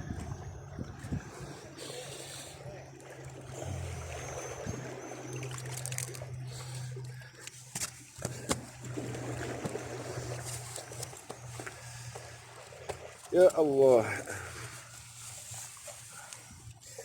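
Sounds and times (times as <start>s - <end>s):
low steady hum: 0.0s - 17.0s
water sloshing among rocks: 0.0s - 17.0s.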